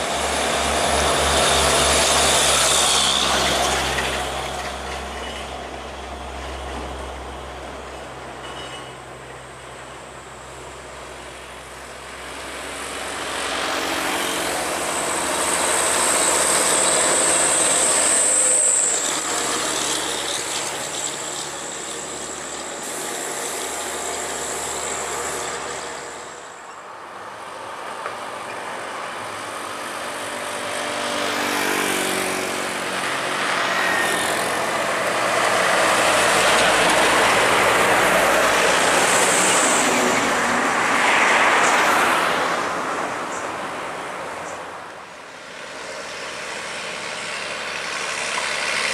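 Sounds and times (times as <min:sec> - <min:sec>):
diesel trucks driving past: 0:00.0 - 0:48.9.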